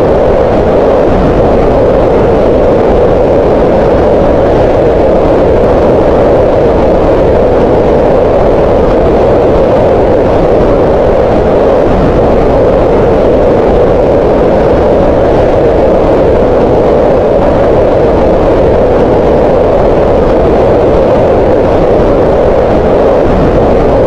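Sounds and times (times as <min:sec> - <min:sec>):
green noise: 0:00.0 - 0:24.0.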